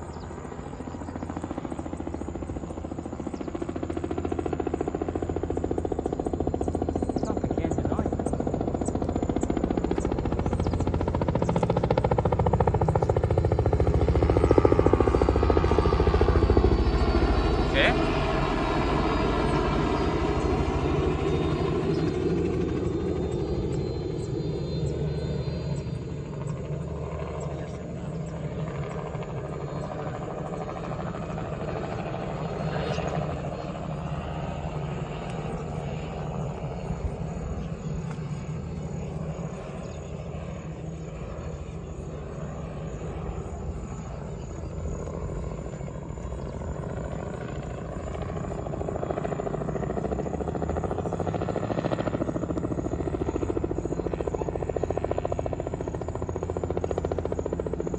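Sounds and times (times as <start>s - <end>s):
helicopter rotor beating: 0.0s - 57.9s.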